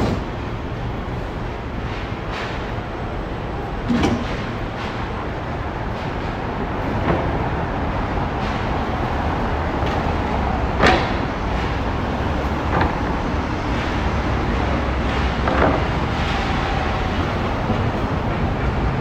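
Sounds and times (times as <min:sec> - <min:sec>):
passing vehicles rumble and hiss: 0:00.0 - 0:19.0.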